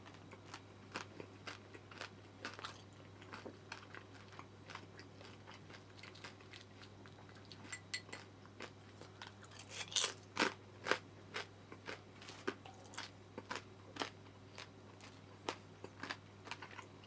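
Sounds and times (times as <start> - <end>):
crunchy food being chewed: 0.0 - 17.0
faint low hum: 0.0 - 17.0.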